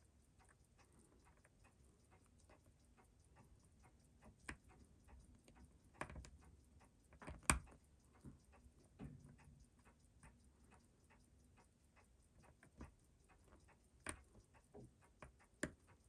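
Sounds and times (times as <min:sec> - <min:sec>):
fast watch ticking: 0:00.0 - 0:16.0.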